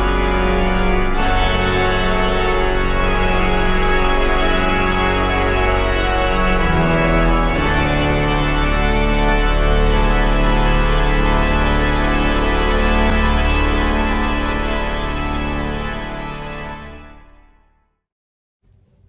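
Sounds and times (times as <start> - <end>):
sustained organ-like chords: 0.0 - 17.7.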